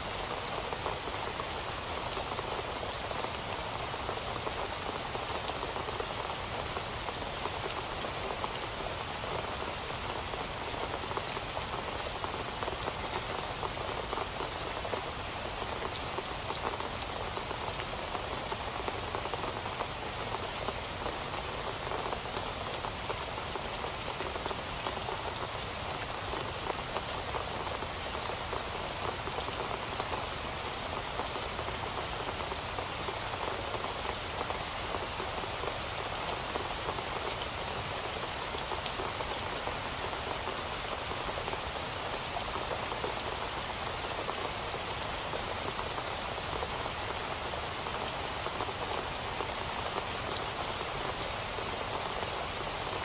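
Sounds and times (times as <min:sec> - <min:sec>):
steady rain hissing: 0:00.0 - 0:53.0.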